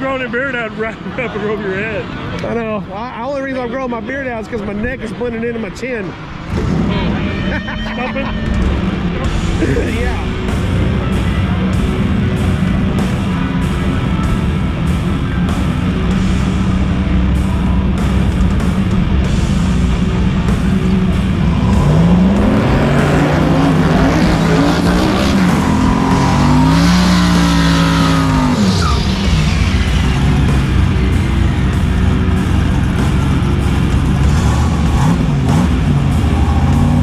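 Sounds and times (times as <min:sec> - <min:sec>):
race car engines accelerating: 0:00.0 - 0:37.0.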